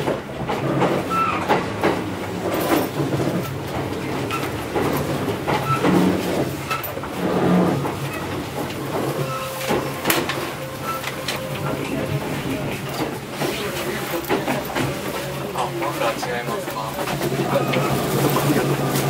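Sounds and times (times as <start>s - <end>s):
electric train low hum: 0.0s - 19.0s
knocks and clatter: 0.0s - 19.0s.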